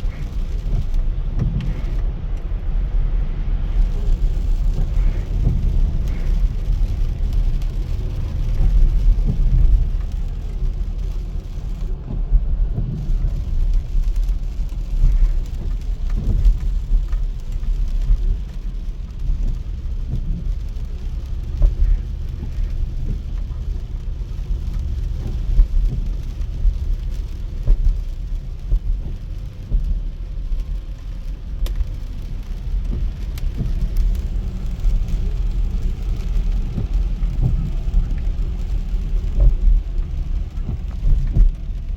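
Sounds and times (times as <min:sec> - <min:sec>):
car road rumble: 0:00.0 - 0:41.9
rain on car: 0:00.0 - 0:41.9
light ticks: 0:03.8 - 0:41.9.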